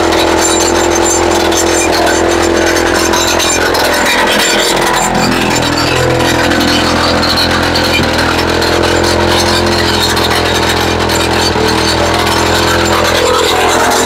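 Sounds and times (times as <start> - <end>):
rock drill engine rattling: 0.0 - 14.0.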